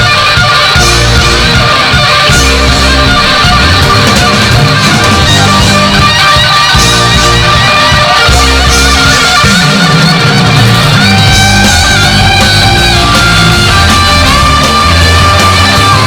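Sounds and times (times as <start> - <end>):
live rock band music: 0.0 - 16.0.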